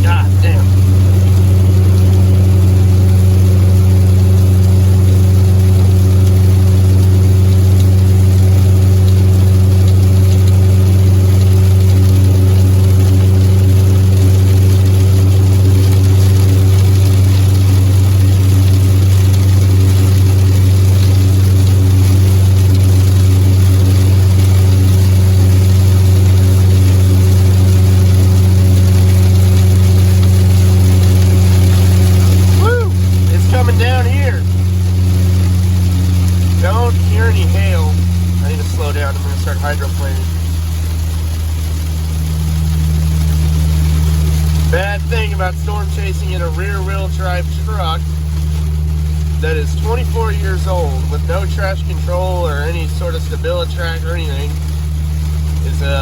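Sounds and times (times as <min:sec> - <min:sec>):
engine and road noise drone: 0:00.0 - 0:56.0.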